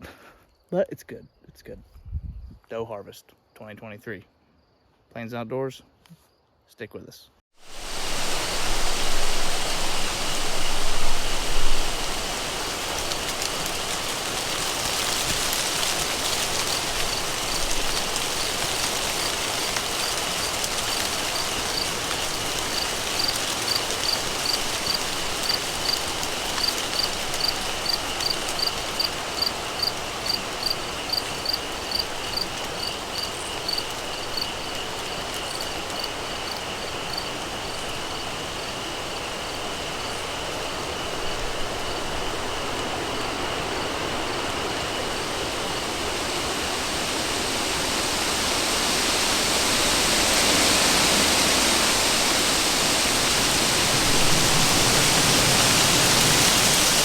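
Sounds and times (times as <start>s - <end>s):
cricket chirping: 0.4s - 1.6s, 4.2s - 5.0s, 8.0s - 57.0s
high insect trill: 7.6s - 57.0s
steady hiss: 7.6s - 57.0s.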